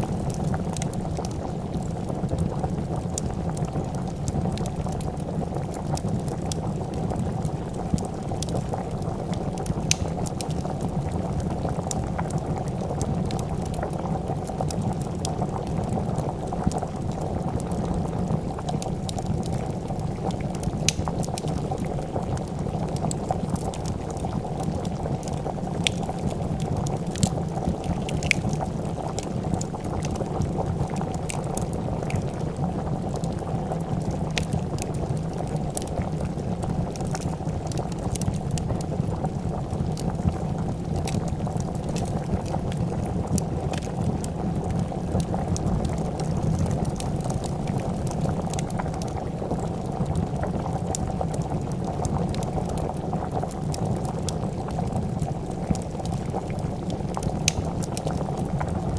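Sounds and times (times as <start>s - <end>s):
soup bubbling at a boil: 0.0s - 58.9s
wood fire popping and crackling: 0.0s - 58.9s.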